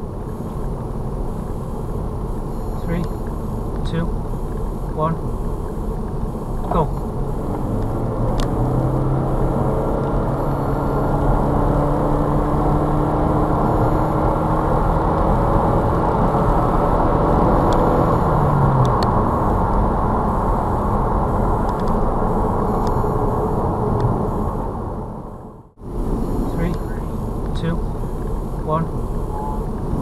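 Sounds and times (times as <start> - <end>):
car engine hum: 0.0 - 30.0
road and tyre noise: 0.0 - 30.0.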